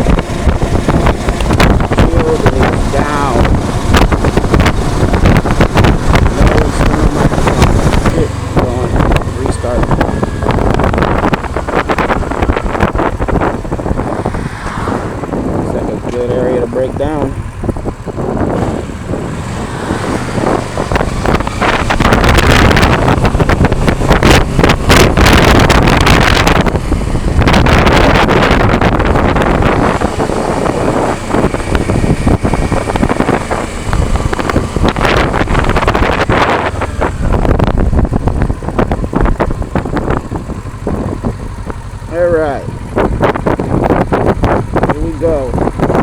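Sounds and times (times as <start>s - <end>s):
motorcycle engine running: 0.0s - 46.0s
wind buffeting microphone: 0.0s - 46.0s.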